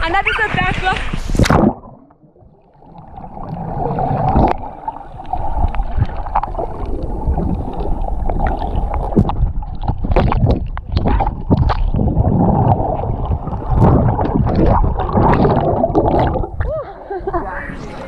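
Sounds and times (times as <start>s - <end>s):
underwater water rumbling: 0.0s - 18.0s.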